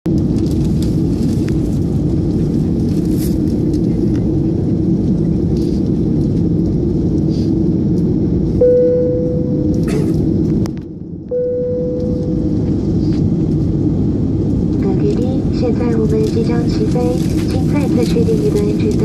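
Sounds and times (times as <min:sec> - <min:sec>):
aircraft cabin engine rumble: 0:00.1 - 0:19.0.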